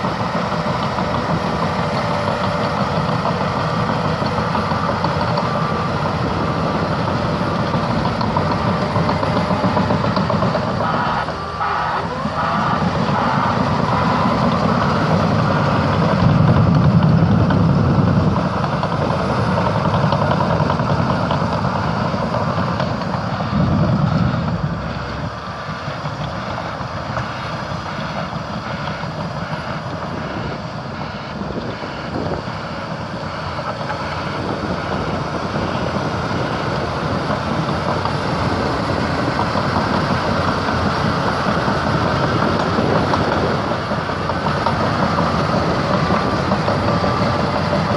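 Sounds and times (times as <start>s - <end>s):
bulldozer diesel engine: 0.0s - 47.9s
track clatter: 0.0s - 47.9s.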